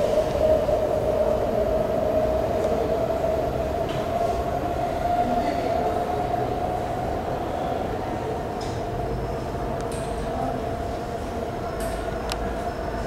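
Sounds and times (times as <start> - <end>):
train rumble: 0.0 - 13.0
train whining tone: 0.0 - 13.0.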